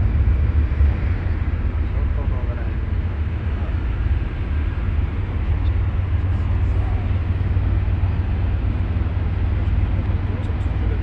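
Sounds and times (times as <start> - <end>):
ferry engine rumble: 0.0 - 11.0.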